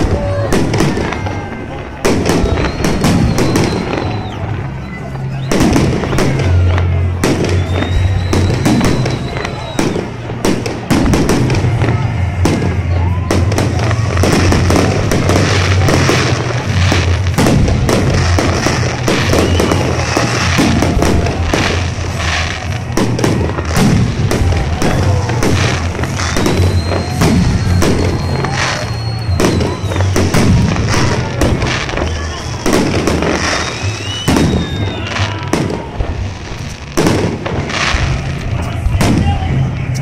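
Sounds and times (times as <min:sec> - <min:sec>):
background music: 0:00.0 - 0:40.0
fireworks bursting and crackling: 0:00.0 - 0:40.0.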